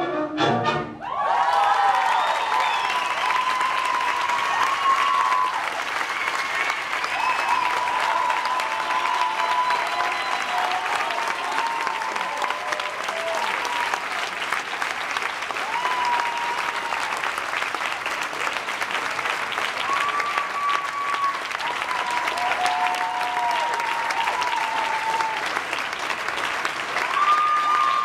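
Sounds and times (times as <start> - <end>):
crowd cheering: 0.9 - 28.0
audience clapping: 1.0 - 28.0.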